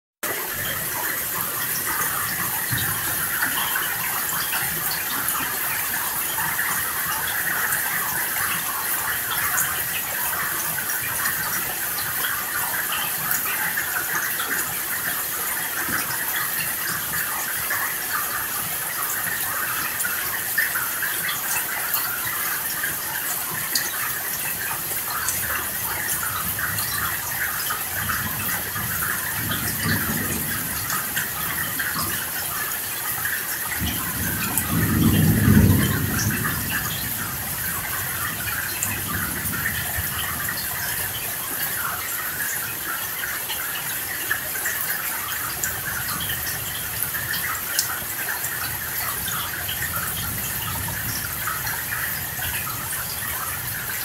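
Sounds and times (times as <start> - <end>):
steady rain falling: 0.2 - 54.0.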